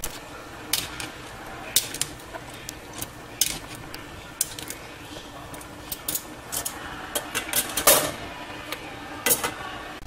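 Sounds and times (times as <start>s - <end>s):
utensils clinking against cookware: 0.6s - 9.7s.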